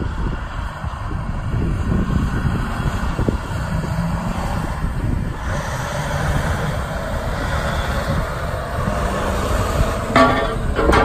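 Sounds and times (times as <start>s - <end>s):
diesel truck engine rumbling: 0.0s - 11.0s
wind on microphone: 0.0s - 11.0s.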